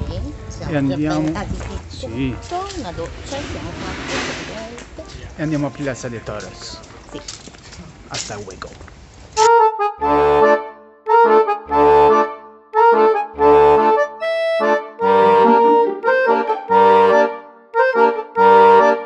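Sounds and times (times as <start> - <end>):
bouncy instrumental music: 0.0 - 7.4, 9.4 - 19.0.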